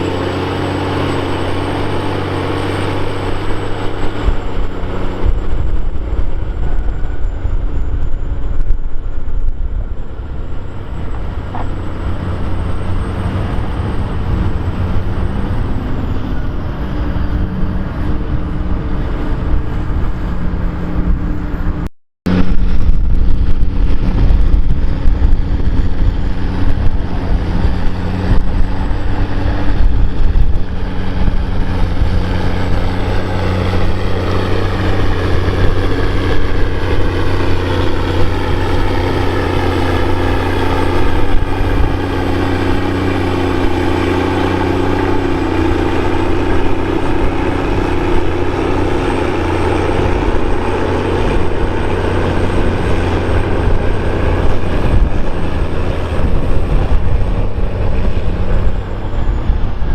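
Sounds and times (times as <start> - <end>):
rising high whine: 0.0 - 59.9
tractor diesel engine drone: 0.0 - 59.9.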